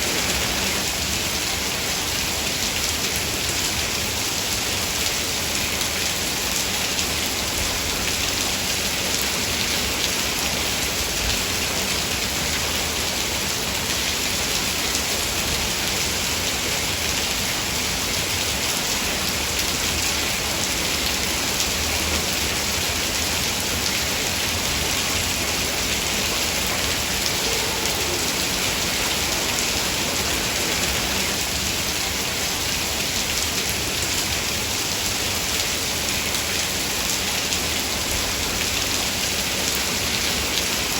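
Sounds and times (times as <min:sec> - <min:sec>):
heavy rain on woodland: 0:00.0 - 0:40.9.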